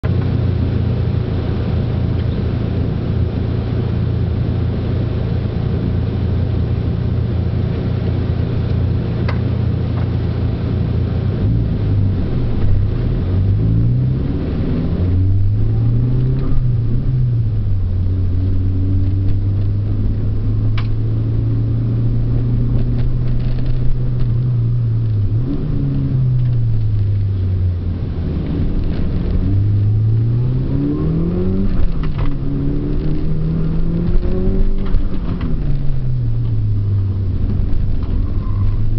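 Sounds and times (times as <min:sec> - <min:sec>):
car engine accelerating and shifting: 0:00.0 - 0:38.9.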